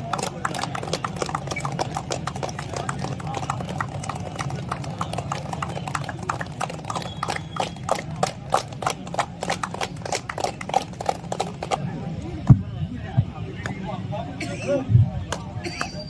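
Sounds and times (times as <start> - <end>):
people clapping: 0.0 - 12.6, 13.5 - 13.9, 15.1 - 16.0.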